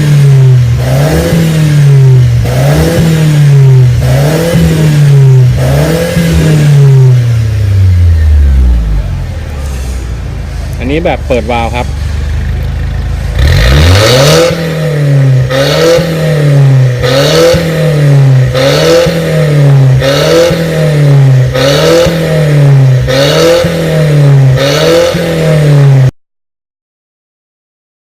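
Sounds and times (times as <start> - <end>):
car engine revving: 0.0 - 26.1.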